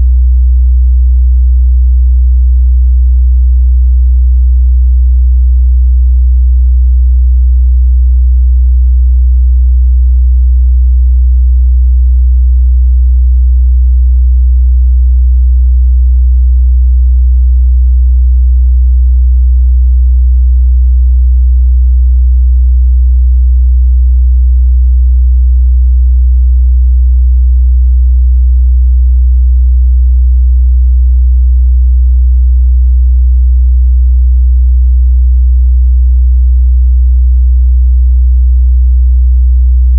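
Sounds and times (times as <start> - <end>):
deep bass sine tone: 0.0 - 34.2.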